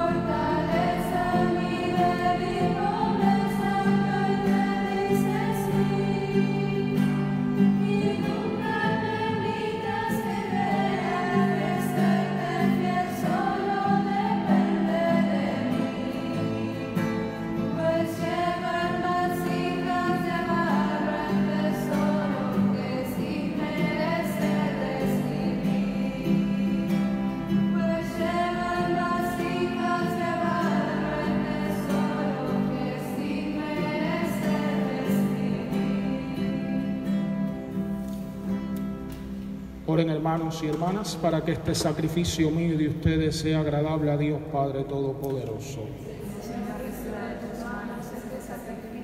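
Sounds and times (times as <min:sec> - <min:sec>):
choir singing a hymn: 0:00.0 - 0:39.4, 0:45.7 - 0:49.0.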